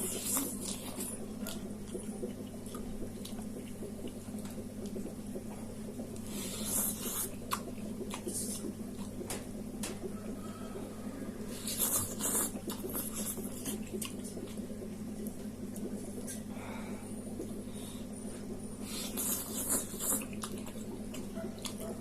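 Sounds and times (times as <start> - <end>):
chewing and slurping noodles: 0.0 - 9.2, 10.2 - 16.5, 18.4 - 22.0
steady low hum: 0.0 - 22.0.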